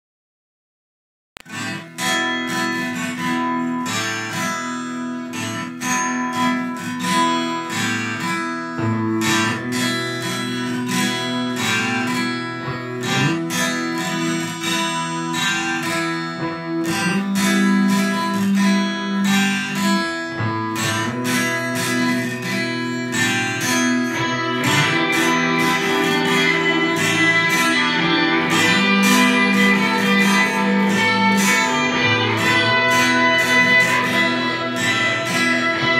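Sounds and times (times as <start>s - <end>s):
guitar-led instrumental music: 1.4s - 35.9s.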